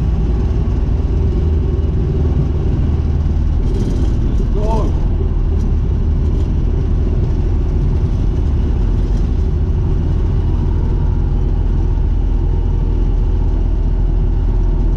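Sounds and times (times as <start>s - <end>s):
light aircraft engine droning: 0.0s - 14.9s.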